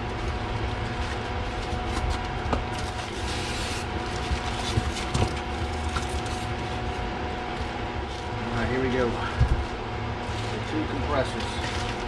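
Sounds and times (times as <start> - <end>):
steady background hum: 0.0 - 12.0
styrofoam and plastic rustling: 0.1 - 7.0, 7.6 - 12.0.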